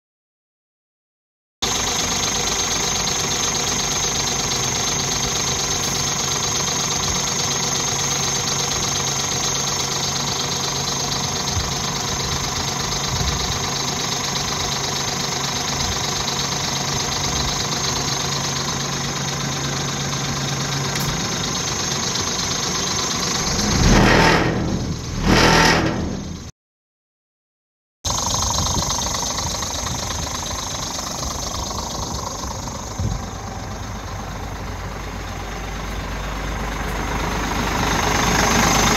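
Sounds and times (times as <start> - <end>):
diesel truck engine idling and revving: 1.6 - 26.5, 28.1 - 38.9.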